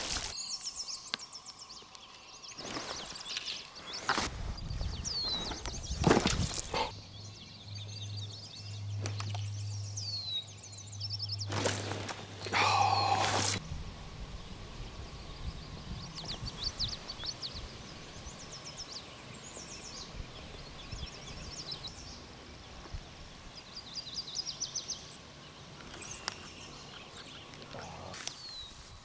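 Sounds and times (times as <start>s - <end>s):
small birds singing: 0.0s - 13.6s, 14.2s - 29.0s.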